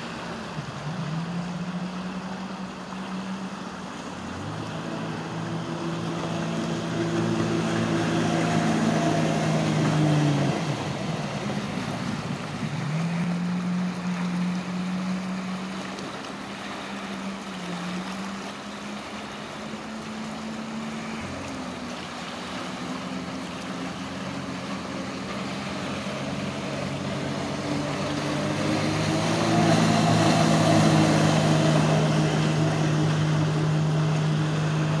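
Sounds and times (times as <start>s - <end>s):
jet ski engine droning: 0.0s - 35.0s.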